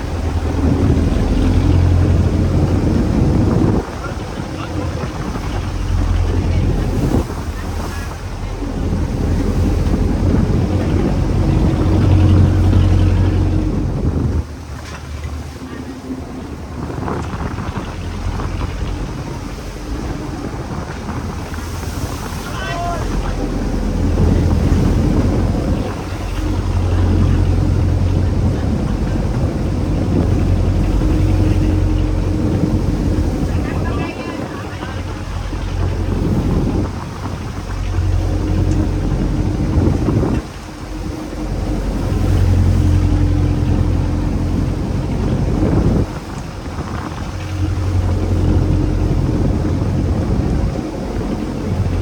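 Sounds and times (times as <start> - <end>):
boat engine droning: 0.0 - 52.0
wind and water rushing: 0.0 - 52.0.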